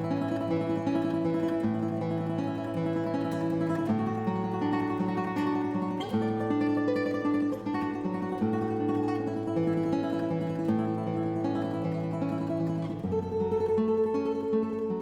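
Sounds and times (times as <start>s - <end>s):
plucked acoustic guitar music: 0.0s - 15.0s.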